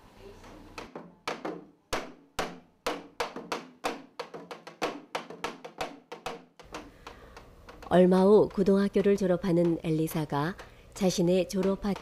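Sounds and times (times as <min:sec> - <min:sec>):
hourglass drum beaten with stick: 0:02.0 - 0:12.0.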